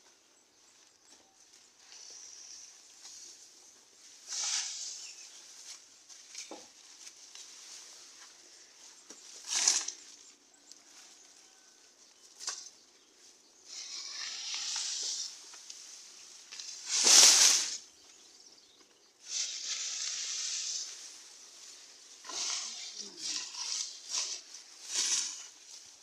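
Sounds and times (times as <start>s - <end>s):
rustling and swishing: 1.6s - 11.8s, 13.2s - 18.3s, 19.2s - 26.0s.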